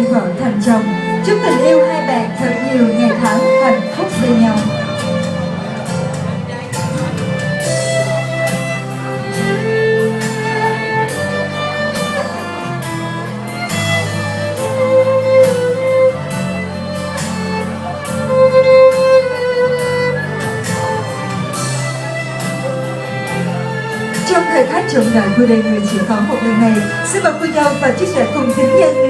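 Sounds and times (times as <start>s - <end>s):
instrumental music with beat: 0.0s - 29.0s.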